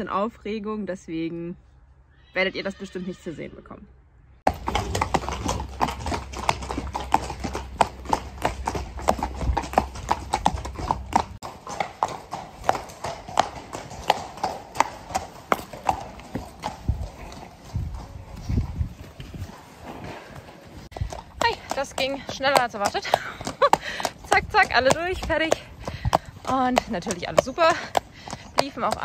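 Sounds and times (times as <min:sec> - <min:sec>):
hooves clip-clopping on brick: 0:04.4 - 0:29.0.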